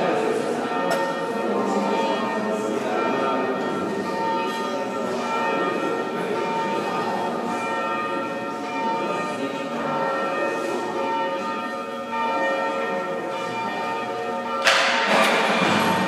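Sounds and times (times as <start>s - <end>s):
bells ringing: 0.0s - 16.0s.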